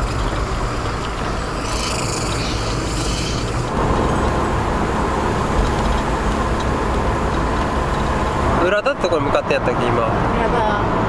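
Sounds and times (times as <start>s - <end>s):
road and engine noise in van: 0.0s - 11.0s.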